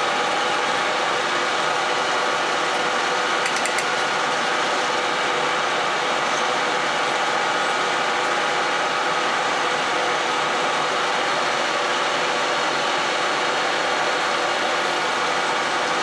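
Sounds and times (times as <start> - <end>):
metal lathe whirring: 0.0 - 16.0.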